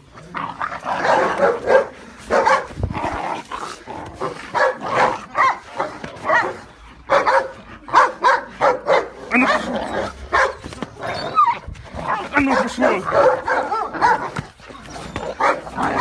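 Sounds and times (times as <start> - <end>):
puppies yipping and barking: 0.7 - 16.0.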